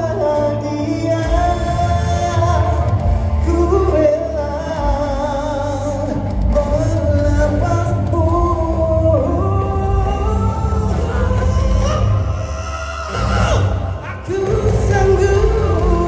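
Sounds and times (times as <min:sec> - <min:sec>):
amplified instrumental backing: 0:00.0 - 0:16.0
man singing into a microphone: 0:00.0 - 0:16.0.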